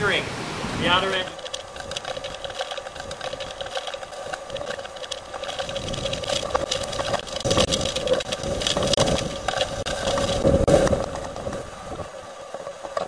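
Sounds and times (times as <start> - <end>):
hurricane wind and rain: 0.0 - 13.0.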